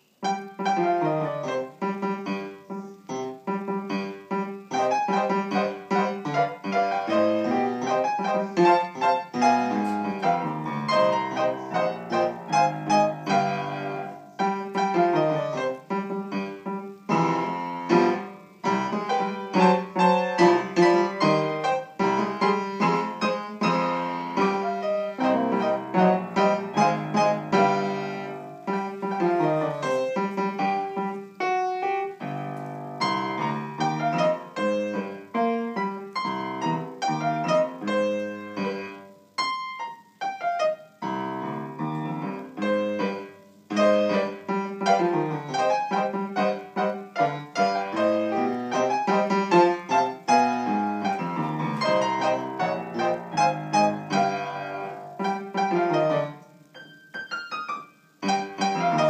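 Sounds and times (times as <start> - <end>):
piano duet: 0.0 - 59.0.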